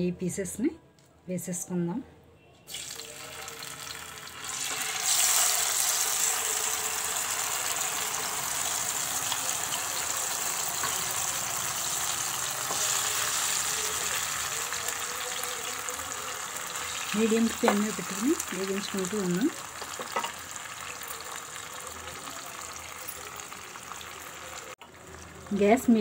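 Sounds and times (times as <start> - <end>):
fish sizzling in hot oil: 2.7 - 26.0.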